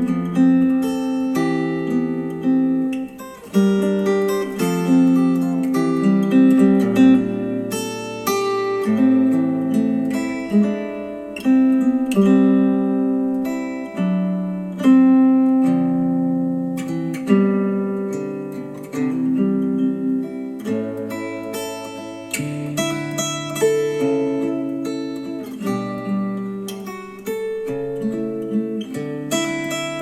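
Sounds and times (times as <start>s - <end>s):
acoustic guitar chords over speakers: 0.0s - 30.0s.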